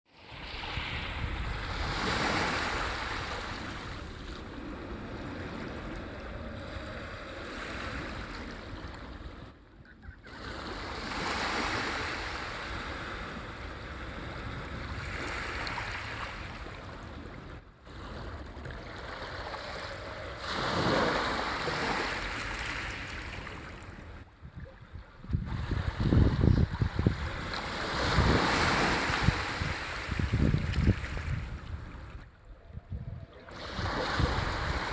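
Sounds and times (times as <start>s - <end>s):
sea waves washing ashore: 0.1s - 32.3s, 33.3s - 34.9s
wind buffeting microphone: 0.2s - 9.6s, 11.2s - 34.9s.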